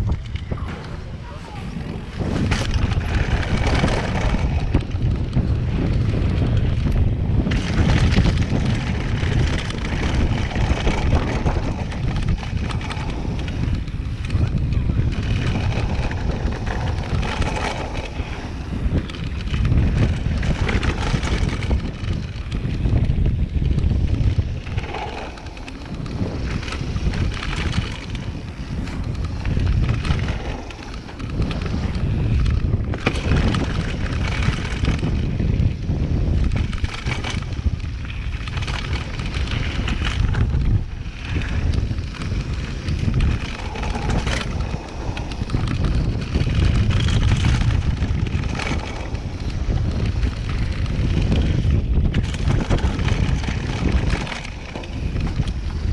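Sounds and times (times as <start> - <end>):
bike knocks and rattles: 0.0 - 55.9
bike tyres on dirt: 0.0 - 55.9
wind buffeting microphone: 0.0 - 55.9.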